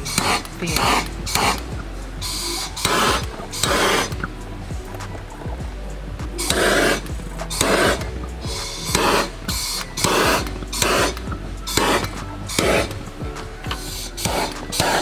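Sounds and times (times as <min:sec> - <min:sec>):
faint background music: 0:00.0 - 0:15.0
rasping rub strokes: 0:00.0 - 0:15.0.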